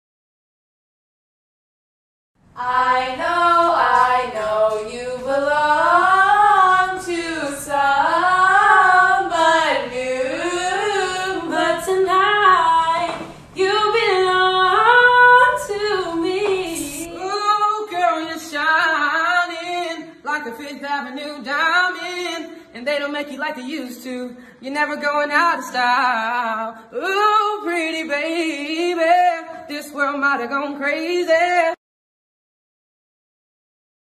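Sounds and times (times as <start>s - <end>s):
women singing unaccompanied: 2.6s - 31.8s.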